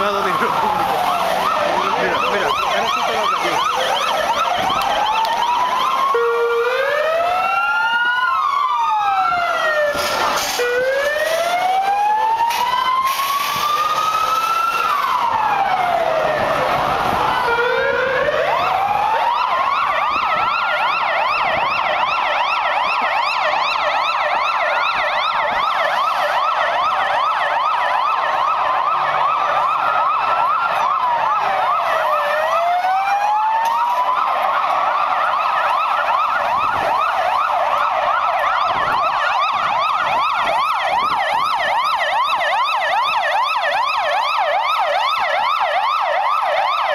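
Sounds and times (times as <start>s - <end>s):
police sirens wailing and yelping: 0.0s - 46.9s.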